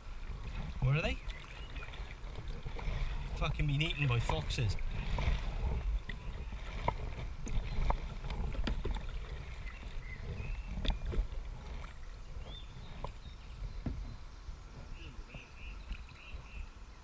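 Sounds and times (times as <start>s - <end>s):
paddle splashing in water: 0.0s - 16.6s.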